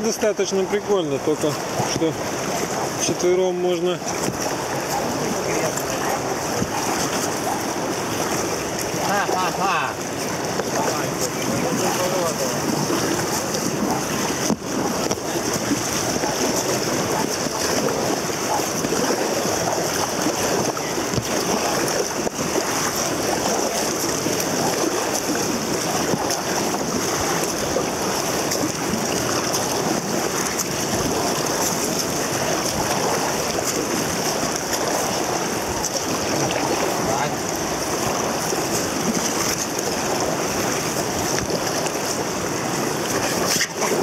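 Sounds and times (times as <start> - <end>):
river rapids rushing: 0.0 - 44.0.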